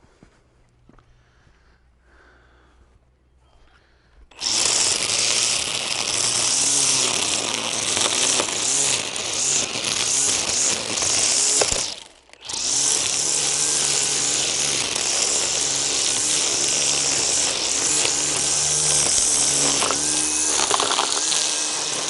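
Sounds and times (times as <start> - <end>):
string trimmer cutting grass: 4.3 - 22.0.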